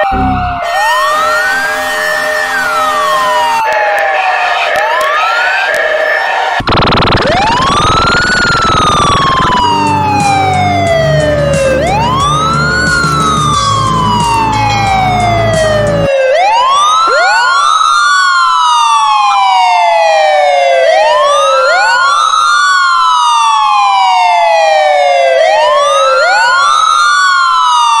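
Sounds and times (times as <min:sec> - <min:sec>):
ambulance siren wailing: 0:00.0 - 0:28.0.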